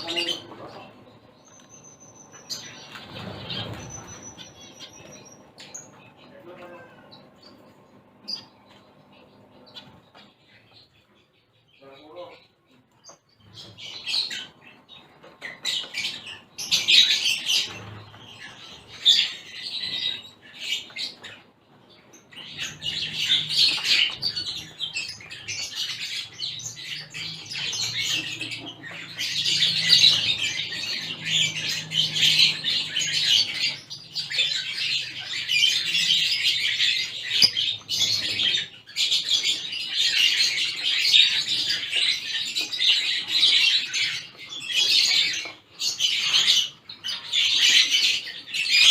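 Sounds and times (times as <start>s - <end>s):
finches chirping: 0.0s - 48.9s.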